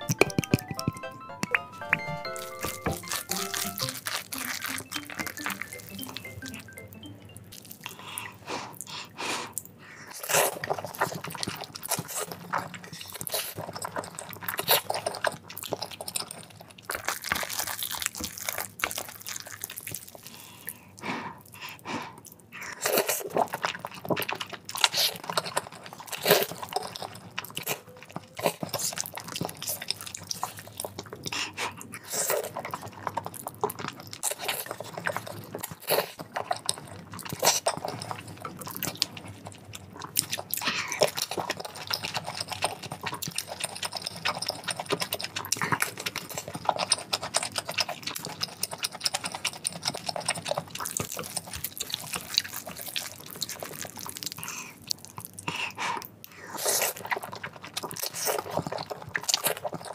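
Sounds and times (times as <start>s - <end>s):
wet chewing mouth sounds: 2.4s - 59.9s.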